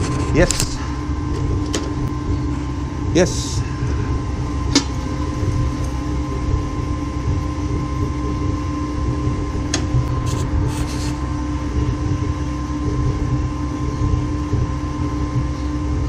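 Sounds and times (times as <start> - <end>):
furnace burner rumble: 0.0 - 16.0.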